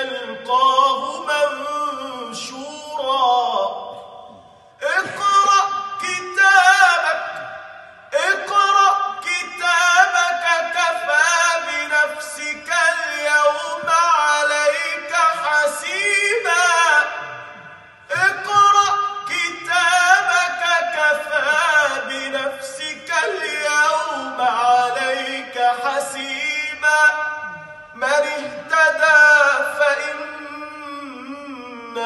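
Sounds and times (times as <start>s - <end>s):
man reciting melodically: 0.0s - 32.0s.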